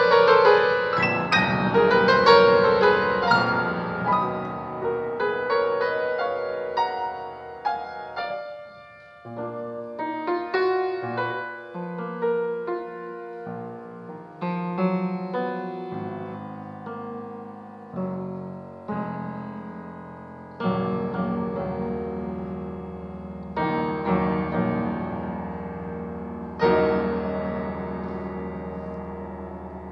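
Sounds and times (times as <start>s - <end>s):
grand piano chords: 0.0s - 29.9s.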